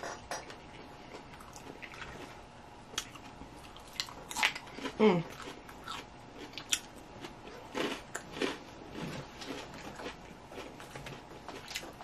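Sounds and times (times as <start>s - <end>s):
chewing crunchy food: 1.0s - 12.0s.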